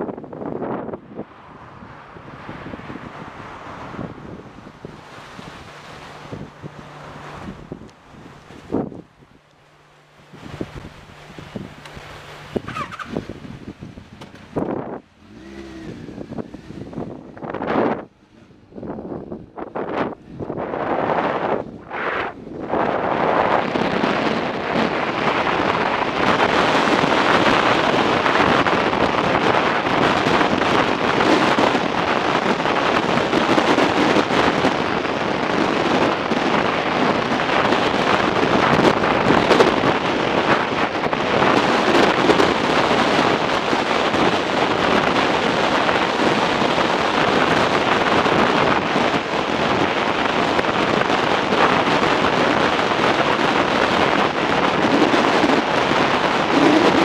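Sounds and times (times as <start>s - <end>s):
wind buffeting microphone: 0.0s - 57.0s
motorcycle running: 1.9s - 57.0s.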